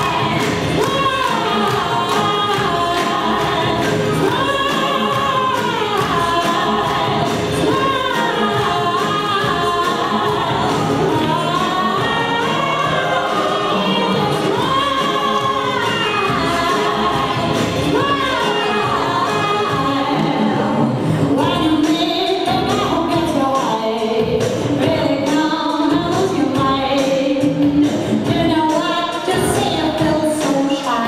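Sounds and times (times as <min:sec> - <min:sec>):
person singing: 0:00.0 - 0:31.0.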